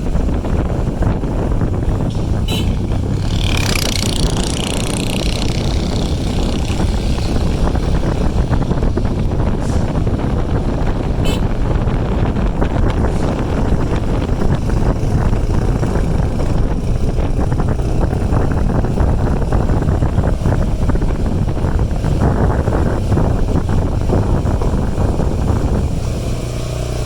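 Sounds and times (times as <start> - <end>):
motorcycle engine running: 0.0 - 27.0
wind rushing over microphone: 0.0 - 27.0.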